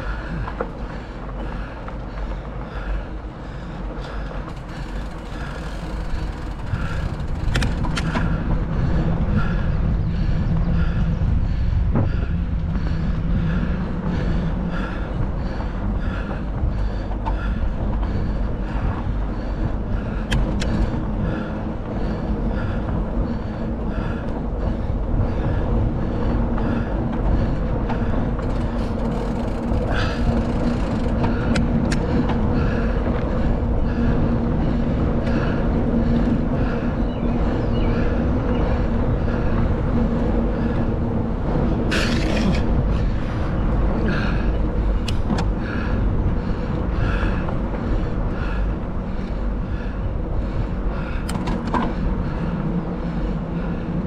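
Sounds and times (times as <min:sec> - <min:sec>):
steady hum: 0:00.0 - 0:54.0
wind on microphone: 0:00.0 - 0:54.0.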